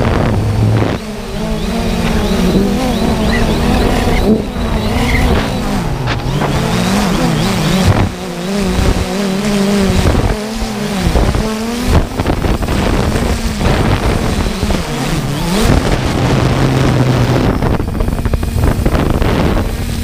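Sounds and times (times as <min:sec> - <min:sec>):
drone propellers buzzing: 0:00.0 - 0:20.0
wind on microphone: 0:00.0 - 0:20.0.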